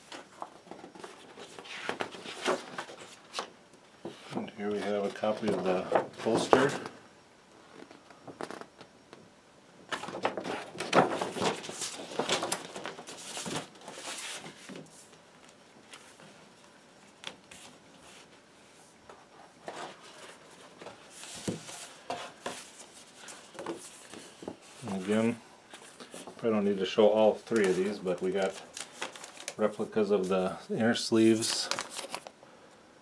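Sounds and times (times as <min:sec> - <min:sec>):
paper rustling and crinkling: 0:00.0 - 0:07.0, 0:09.9 - 0:16.4, 0:19.1 - 0:32.4.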